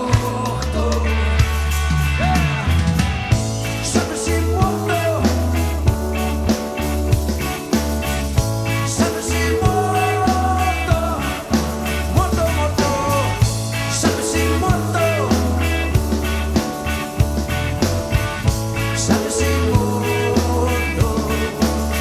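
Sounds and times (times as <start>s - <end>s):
bass guitar: 0.0s - 22.0s
drums: 0.0s - 22.0s
electric guitar bending notes: 0.0s - 22.0s.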